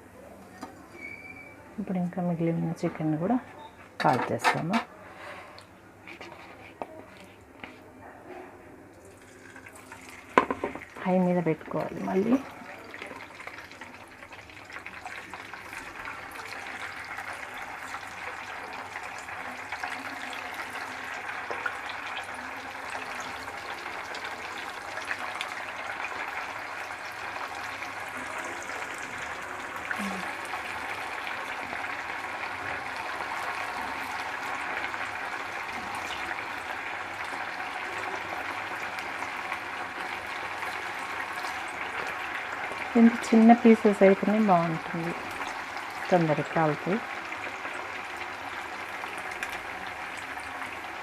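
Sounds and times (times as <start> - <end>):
chicken sizzling in hot oil: 9.2 - 51.0.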